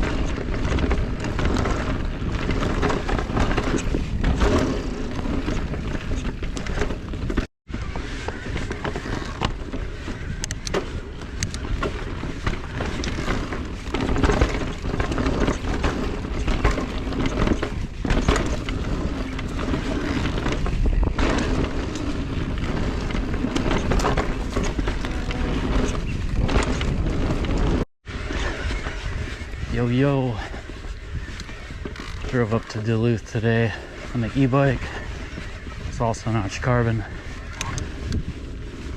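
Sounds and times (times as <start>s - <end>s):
bike rattles and knocks: 0.0s - 38.9s
tyre and wind rumble: 0.0s - 38.9s.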